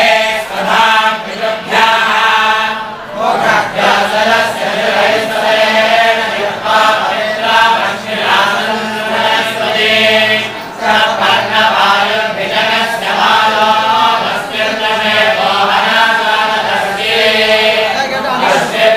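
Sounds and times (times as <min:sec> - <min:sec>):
men chanting in unison: 0:00.0 - 0:18.9.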